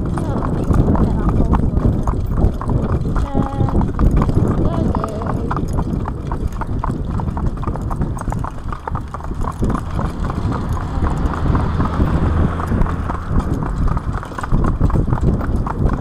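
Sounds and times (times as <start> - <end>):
horse hooves clip-clopping on road: 0.0 - 16.0
low rumble: 0.0 - 16.0.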